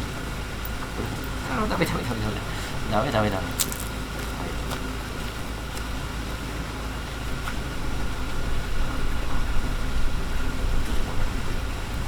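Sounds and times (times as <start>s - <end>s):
wood fire rumble and crackles: 0.0s - 12.0s.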